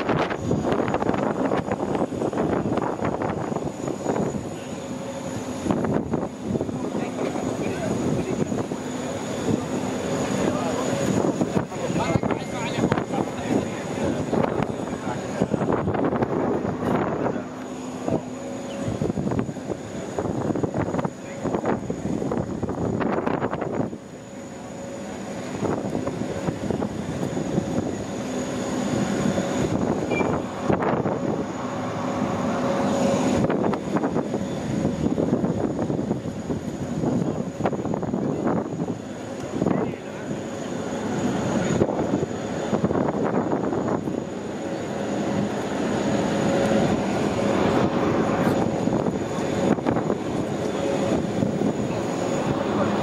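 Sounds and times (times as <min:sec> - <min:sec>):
aircraft engine rumble: 0:00.0 - 0:53.0.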